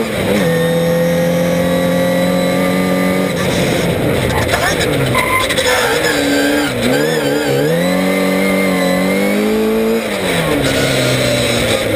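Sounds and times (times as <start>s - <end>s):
car engine revving hard: 0.0s - 11.9s.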